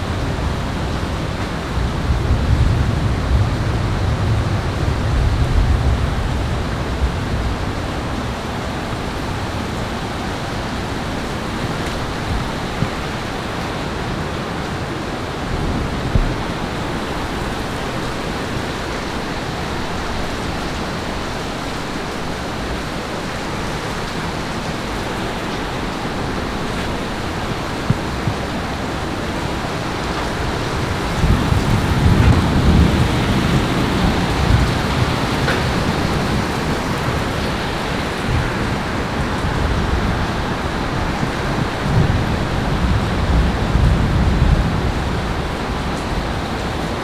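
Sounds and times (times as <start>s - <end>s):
heavy rain hissing: 0.0s - 47.0s
thunder rumbling: 0.0s - 47.0s.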